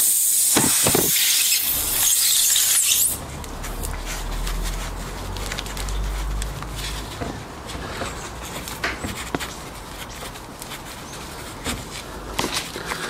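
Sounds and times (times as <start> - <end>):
tyre plug hissing and rubbing: 0.0 - 13.0.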